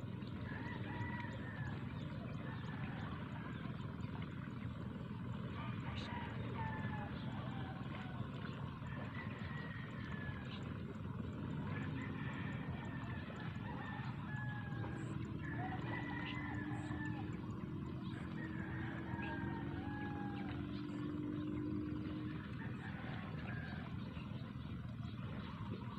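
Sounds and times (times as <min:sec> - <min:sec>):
distant bird calls: 0:00.0 - 0:25.9
low hum: 0:00.0 - 0:25.9
low rush of open field: 0:00.0 - 0:25.9.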